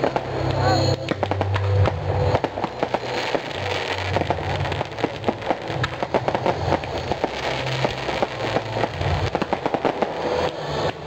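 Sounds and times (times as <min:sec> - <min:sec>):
fireworks crackling and popping: 0:00.0 - 0:11.0
low rumble: 0:00.0 - 0:11.0.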